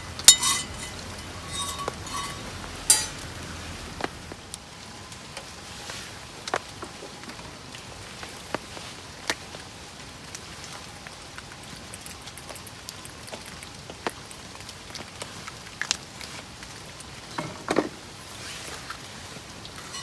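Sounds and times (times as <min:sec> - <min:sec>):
rain falling on a shelter: 0:02.4 - 0:19.9.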